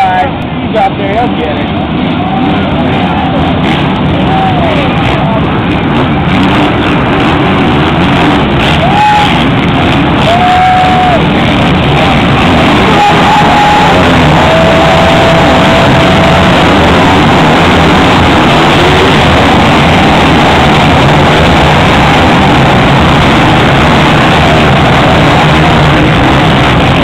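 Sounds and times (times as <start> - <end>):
motocross bikes racing past: 1.7 - 27.0.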